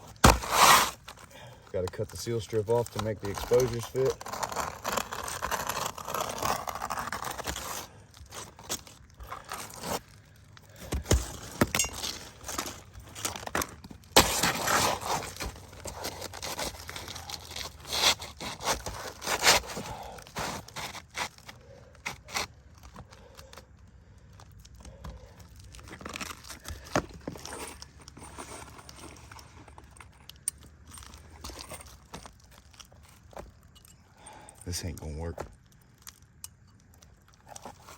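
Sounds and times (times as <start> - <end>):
shingle being scraped and torn: 0.0 - 23.6, 24.9 - 37.9.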